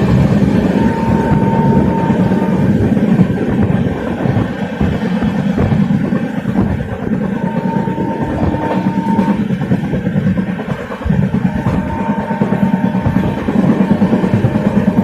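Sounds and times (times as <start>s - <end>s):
train clatter: 0.0s - 15.0s
train wheels rumbling on track: 0.0s - 15.0s.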